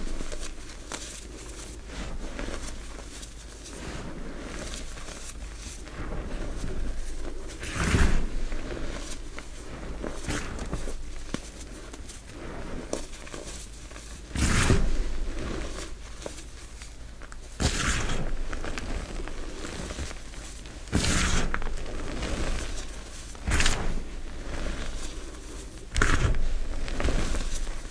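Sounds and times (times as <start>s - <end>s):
hands crushing chalk: 0.0s - 27.9s
loud chalk crunches: 0.0s - 27.9s.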